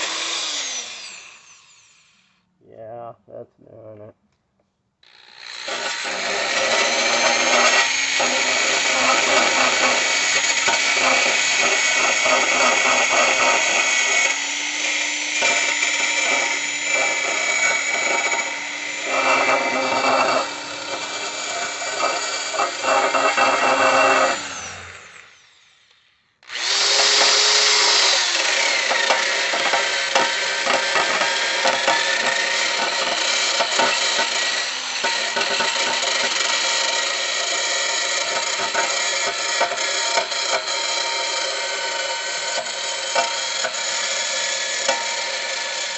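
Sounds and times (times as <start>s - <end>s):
wire brush drill scrubbing metal: 0.0s - 2.3s, 5.1s - 45.9s.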